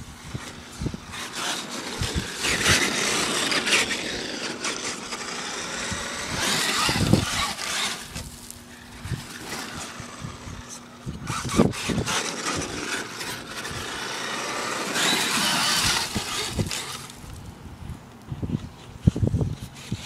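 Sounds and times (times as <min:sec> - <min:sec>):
toy truck motors whining: 0:00.2 - 0:17.4, 0:18.4 - 0:20.0.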